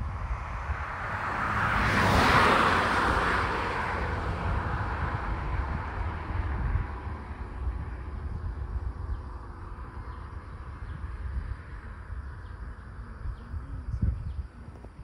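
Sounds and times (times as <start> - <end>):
wind rumble on microphone: 0.0 - 15.0
vehicle driving past: 0.2 - 13.3.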